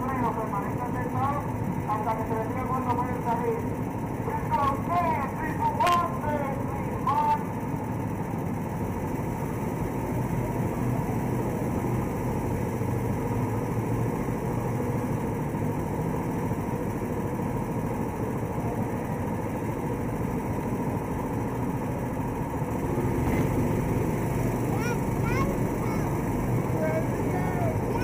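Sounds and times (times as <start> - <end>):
go-kart engine idling: 0.0 - 28.0.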